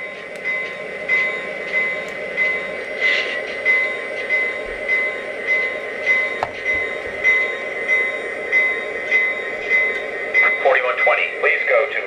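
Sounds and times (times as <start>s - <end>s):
model locomotive humming: 0.0s - 12.0s.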